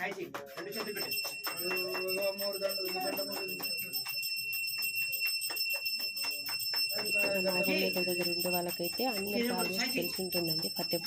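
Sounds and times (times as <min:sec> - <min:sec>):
hand bell rung rapidly: 0:00.2 - 0:11.0.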